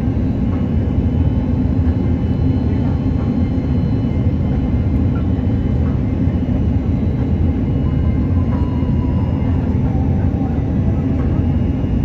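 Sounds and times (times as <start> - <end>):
deep rumble of engine and airflow: 0.0 - 12.0.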